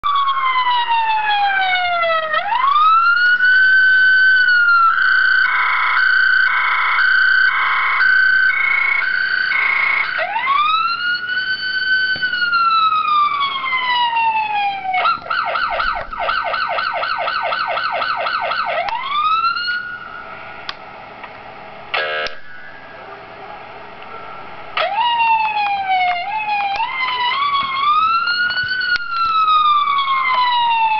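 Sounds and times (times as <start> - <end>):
electronic police siren: 0.0 - 20.4, 22.0 - 23.0, 24.3 - 30.9.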